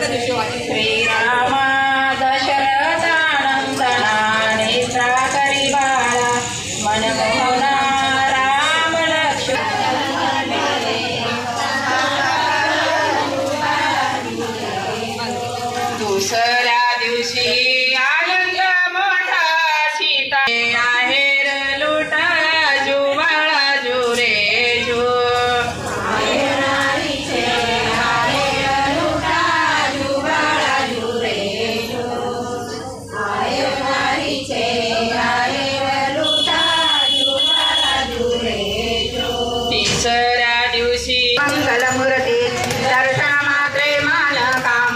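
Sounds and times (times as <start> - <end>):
women singing in unison: 0.0 - 44.9.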